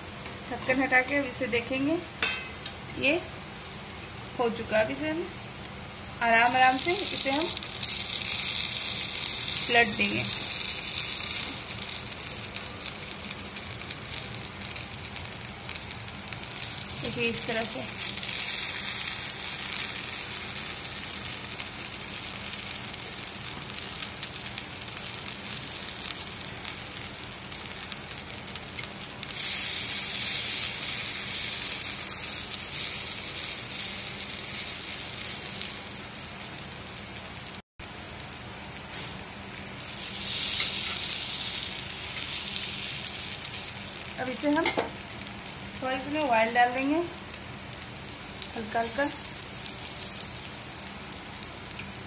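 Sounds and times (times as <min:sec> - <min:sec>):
batter sizzling in hot oil: 0:00.6 - 0:52.0.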